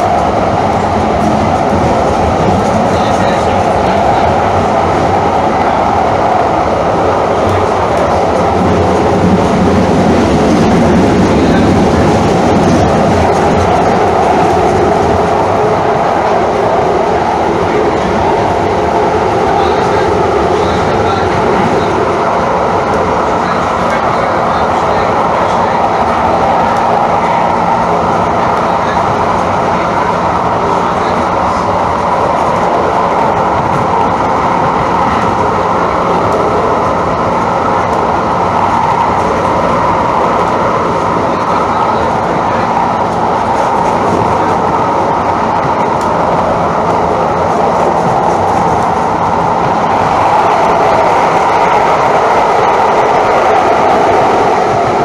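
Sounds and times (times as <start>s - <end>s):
wheels on rails: 0.0s - 55.0s.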